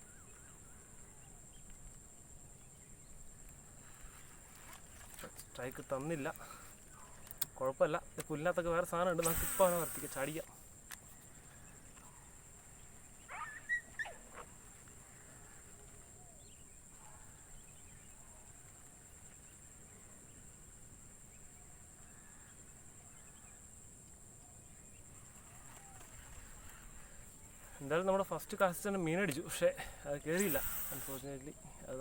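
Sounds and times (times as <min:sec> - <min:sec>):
faint high-pitched hiss: 0:00.0 - 0:32.0.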